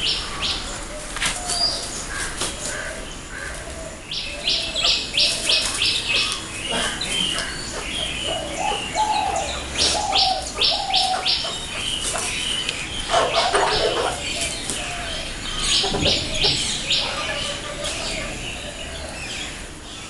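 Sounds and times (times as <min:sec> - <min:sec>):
birds harsh chirps: 0:00.0 - 0:20.0.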